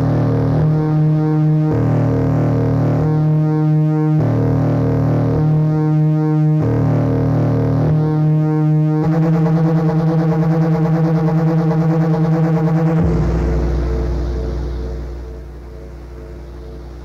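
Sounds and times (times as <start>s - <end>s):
synthesizer buzzing drone: 0.0s - 17.0s.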